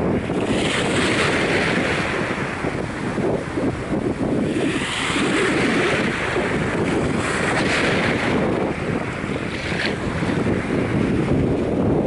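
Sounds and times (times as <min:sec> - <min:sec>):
waves washing over sand: 0:00.0 - 0:12.0
wind buffeting microphone: 0:00.0 - 0:12.0.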